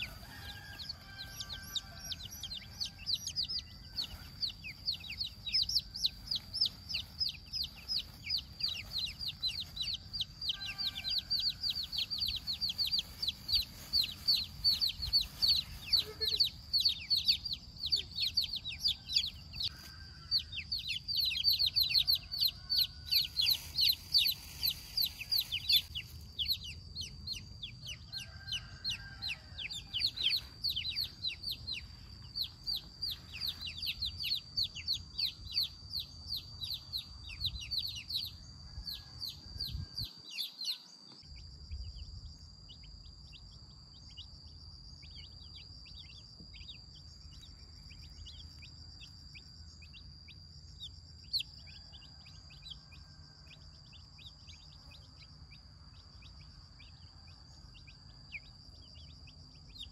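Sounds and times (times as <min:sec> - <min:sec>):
chicks peeping: 0:00.0 - 0:40.9, 0:50.8 - 0:52.8, 0:53.5 - 0:59.9.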